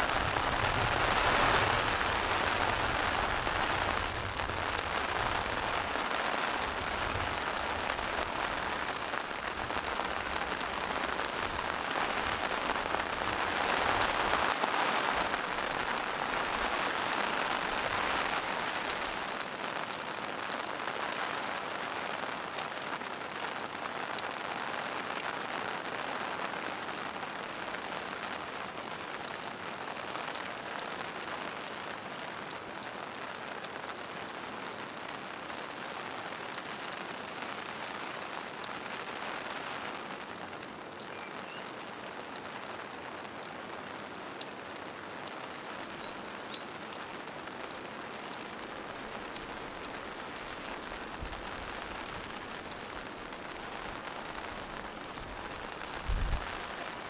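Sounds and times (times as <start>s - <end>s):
rain on leaves and rocks: 0.0s - 57.0s.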